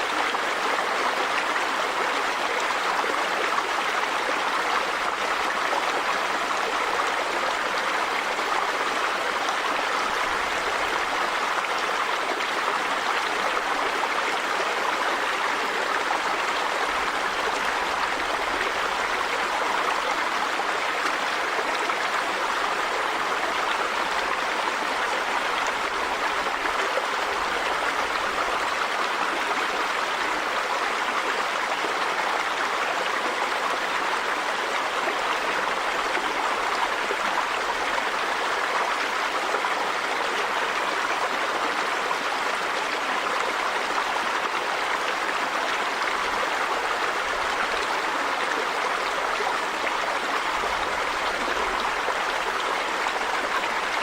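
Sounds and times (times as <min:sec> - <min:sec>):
river water running over rocks: 0:00.0 - 0:54.0.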